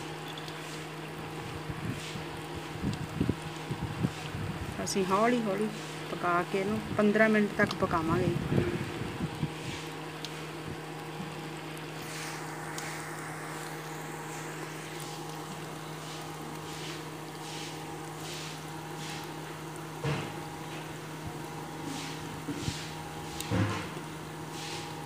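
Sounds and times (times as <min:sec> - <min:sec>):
oil sizzling and bubbling: 0:00.0 - 0:25.0.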